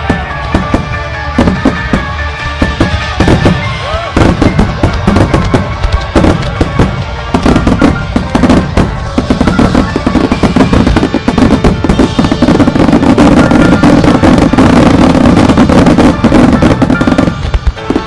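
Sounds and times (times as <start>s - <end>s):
fireworks booms and crackles: 0.0s - 18.0s
music playing: 0.0s - 18.0s.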